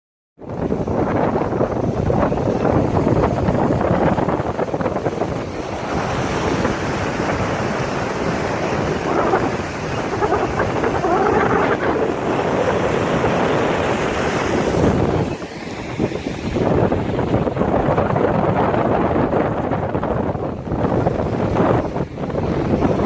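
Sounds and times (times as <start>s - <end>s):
wind on microphone: 0.4s - 23.0s
ocean surf: 0.5s - 23.0s.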